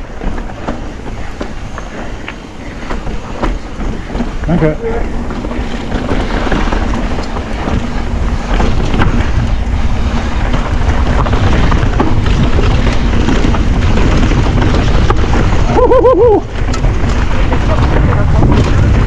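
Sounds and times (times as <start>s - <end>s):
bike rattles and knocks: 0.0s - 19.0s
bike tyre noise: 0.0s - 19.0s
wind buffeting microphone: 0.0s - 19.0s.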